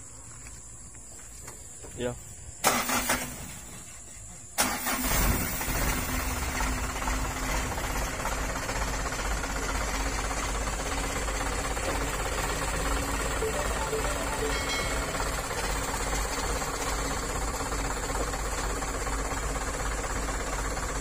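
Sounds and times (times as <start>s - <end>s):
diesel truck engine starting: 2.6s - 21.0s.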